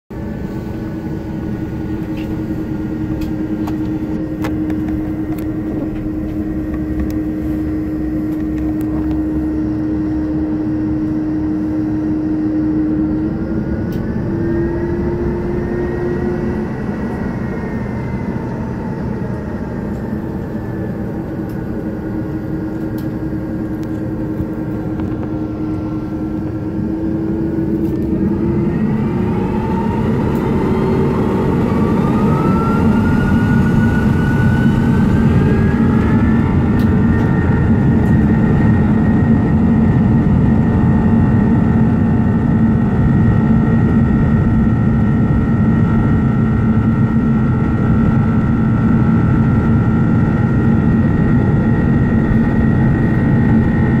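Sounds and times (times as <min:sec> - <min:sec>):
jet engines humming and whining: 0:00.1 - 0:54.0.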